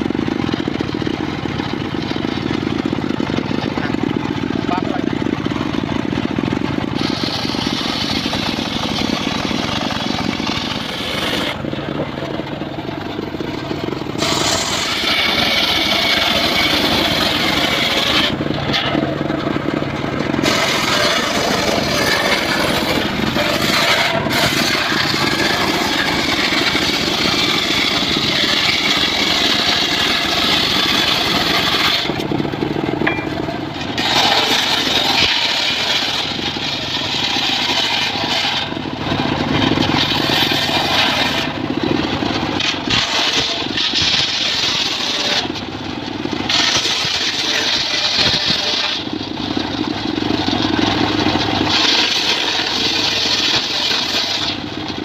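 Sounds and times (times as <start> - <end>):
engine running steadily: 0.0 - 55.0
saw blade whining through wood: 0.0 - 55.0.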